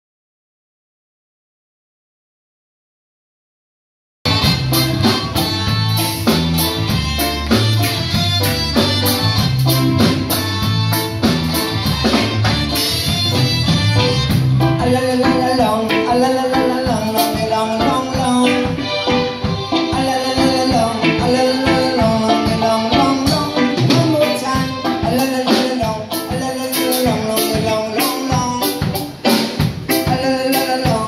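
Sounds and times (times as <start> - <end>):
bass line: 4.2 - 31.0
drums steady beat: 4.2 - 31.0
live band playing upbeat song: 4.2 - 31.0.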